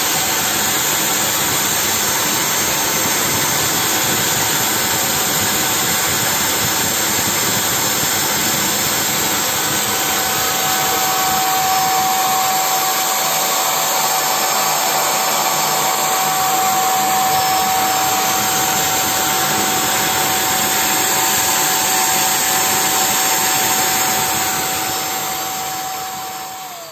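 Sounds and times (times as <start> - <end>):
paint sprayer blowing rush: 0.0 - 26.9
steady whine: 0.0 - 26.9.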